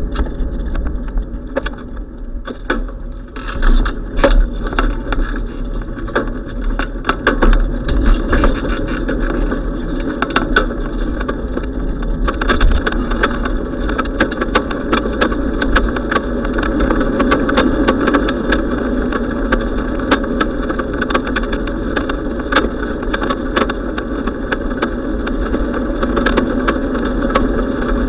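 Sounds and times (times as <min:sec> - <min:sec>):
bicycle rattling clicks: 0:00.0 - 0:28.0
tyre and road rumble: 0:00.0 - 0:28.0
wind on microphone: 0:00.0 - 0:28.0.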